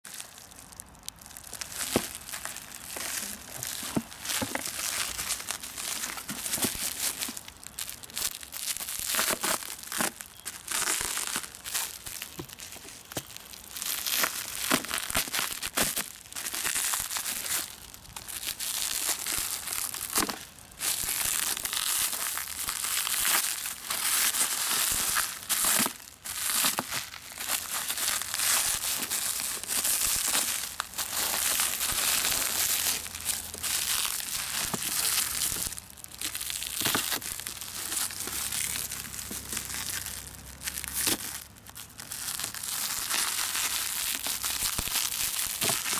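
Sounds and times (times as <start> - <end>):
plastic bag crinkling: 0.1 - 45.9
sharp plastic crackles: 0.1 - 45.9.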